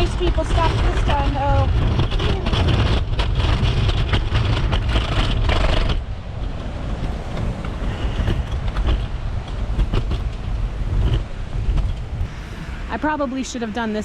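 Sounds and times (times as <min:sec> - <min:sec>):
scooter wheels rolling on slush: 0:00.0 - 0:11.8.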